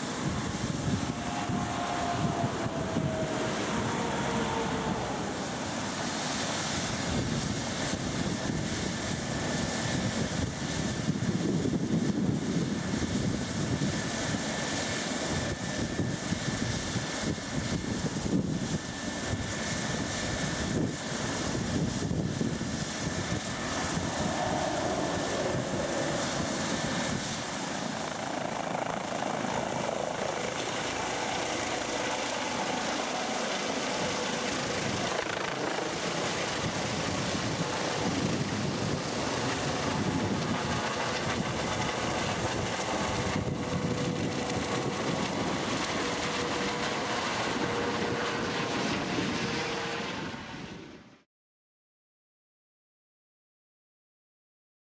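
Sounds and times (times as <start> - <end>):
helicopter rotor beat: 0.0 - 50.9
thin steady engine whine: 0.0 - 51.2.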